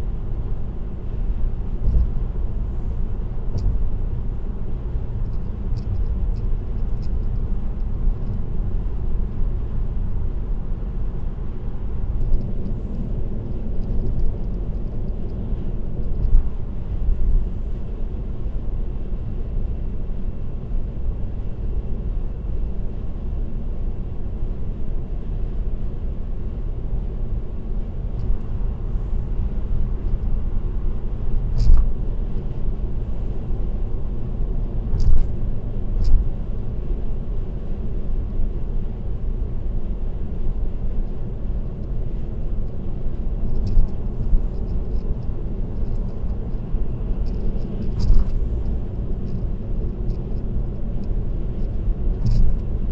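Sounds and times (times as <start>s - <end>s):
car road and tyre noise: 0.0s - 52.9s.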